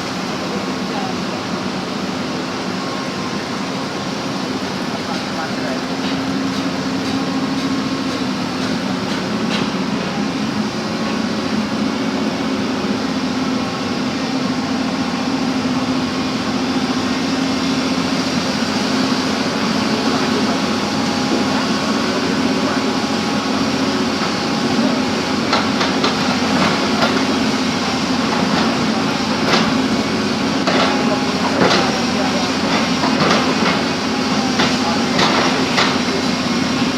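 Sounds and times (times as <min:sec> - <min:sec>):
backhoe engine running: 0:00.0 - 0:36.9.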